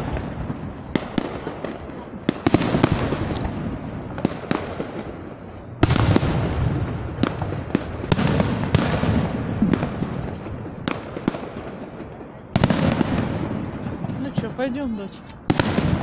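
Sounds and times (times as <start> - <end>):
firework bangs: 0.0 - 16.0
firework crackling: 0.0 - 16.0.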